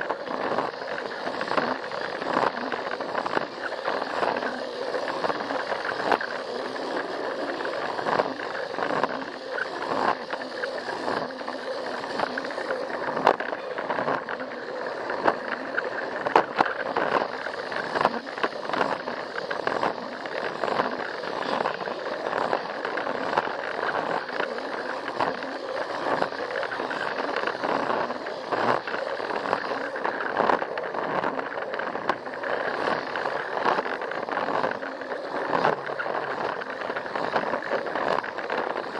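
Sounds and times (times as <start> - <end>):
toy train motor whirring: 0.0 - 38.9.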